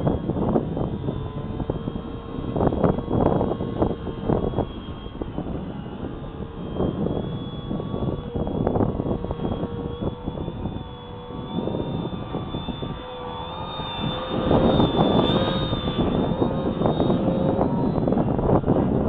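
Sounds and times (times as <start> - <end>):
model airplane motor whining: 0.0 - 19.0
wind buffeting microphone: 0.0 - 19.0.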